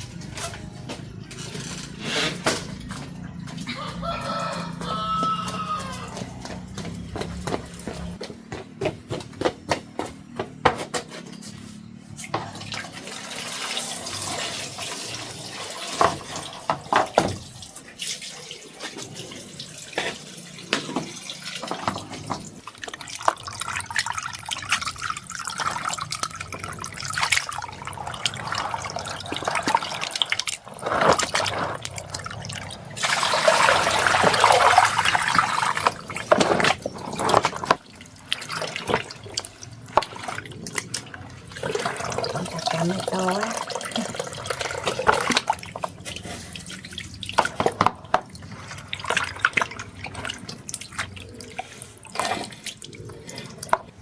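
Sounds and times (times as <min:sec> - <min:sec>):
water splashing and trickling: 0:00.0 - 0:08.2, 0:11.8 - 0:54.0.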